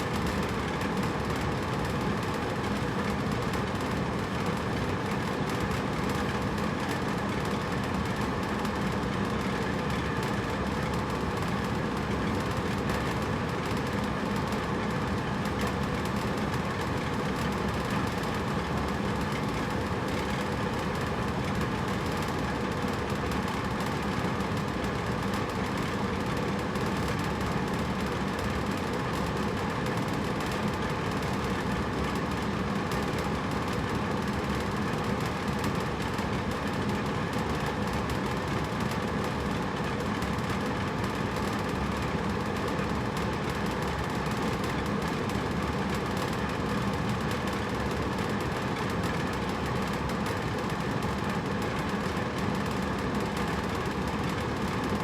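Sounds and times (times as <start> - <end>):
air conditioner fan rushing: 0.0 - 55.0.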